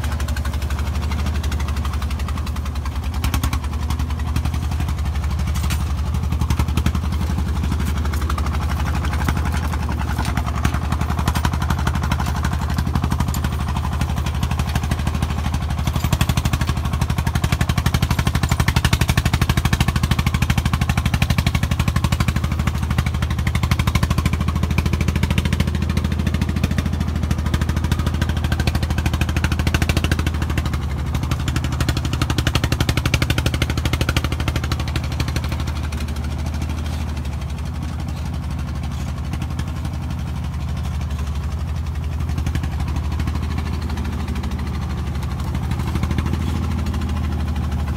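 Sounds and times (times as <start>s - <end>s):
truck engine labouring: 0.0s - 47.9s.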